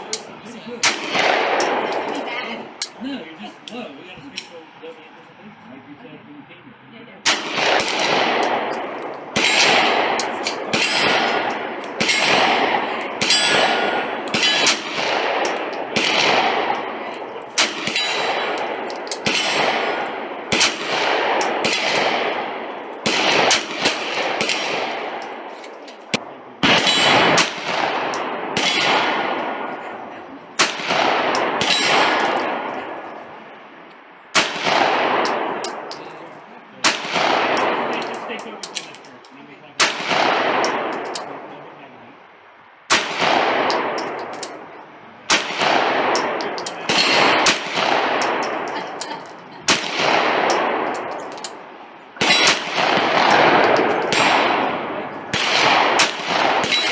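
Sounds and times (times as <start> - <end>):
pistol shots echoing: 0.0 - 3.0, 7.2 - 33.4, 34.3 - 36.2, 36.8 - 38.6, 39.8 - 41.5, 42.9 - 56.9.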